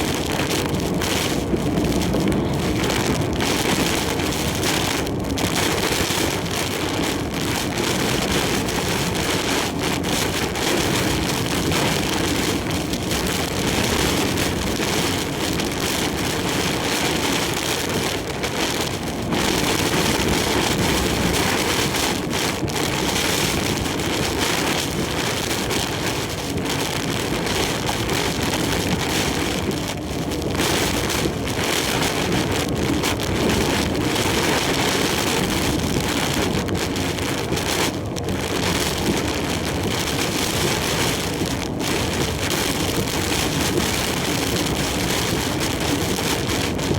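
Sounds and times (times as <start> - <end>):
heavy rain and wind on truck: 0.0 - 46.9.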